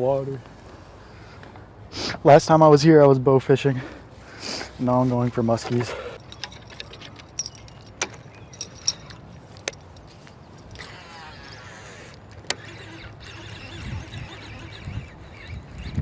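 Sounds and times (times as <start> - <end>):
low rumble of wind: 0.0 - 16.0.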